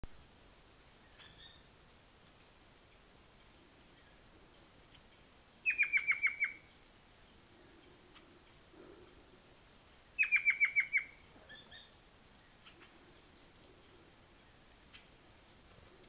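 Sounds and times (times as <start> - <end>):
birds calling: 0.2 - 9.4, 10.2 - 15.3.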